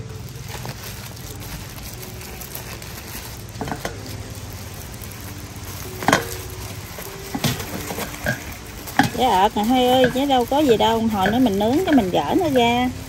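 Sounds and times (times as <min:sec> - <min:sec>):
leaf and plastic gloves rustling: 0:00.0 - 0:13.0
sharp crackles: 0:00.0 - 0:13.0.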